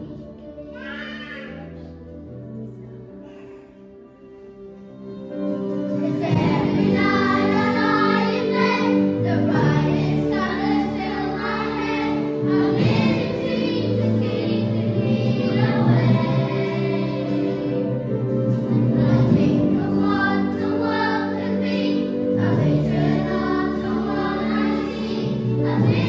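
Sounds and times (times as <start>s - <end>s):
children singing in unison: 0.0s - 1.6s, 5.9s - 26.0s
instrumental accompaniment: 0.0s - 26.0s.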